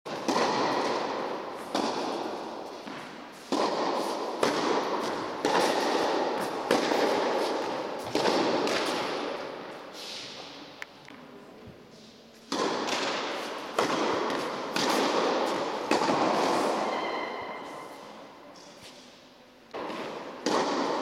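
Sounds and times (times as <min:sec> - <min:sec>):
tennis balls struck by rackets: 0:00.1 - 0:10.6, 0:12.4 - 0:18.0, 0:19.7 - 0:21.0.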